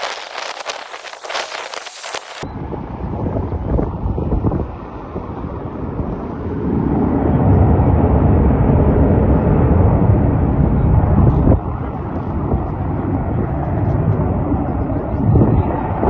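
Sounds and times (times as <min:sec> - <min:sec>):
jet engines at take-off thrust: 0:00.0 - 0:16.0.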